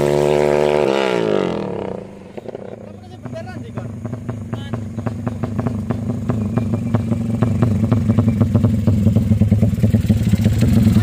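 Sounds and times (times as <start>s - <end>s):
engine revving with crackling: 0.0s - 11.0s.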